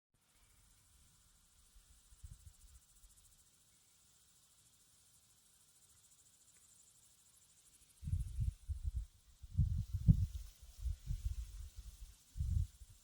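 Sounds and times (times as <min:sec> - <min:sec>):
insects chirring: 0:00.4 - 0:13.0.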